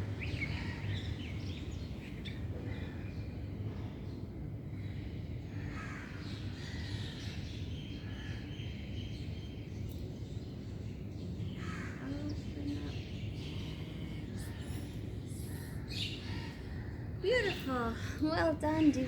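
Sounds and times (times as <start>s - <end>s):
birds chirping: 0.0s - 19.0s
low background rumble: 0.0s - 19.0s.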